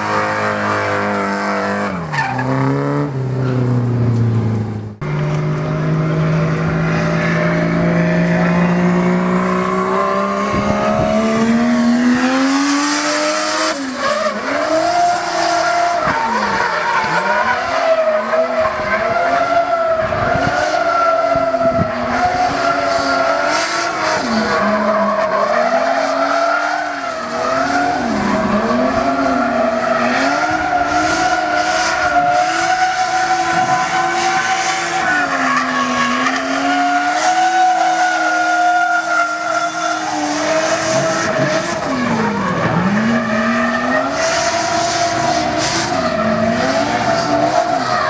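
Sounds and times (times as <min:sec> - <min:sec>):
tires squealing: 0:00.0 - 0:04.0, 0:05.0 - 0:48.0
car engine revving hard: 0:05.0 - 0:48.0.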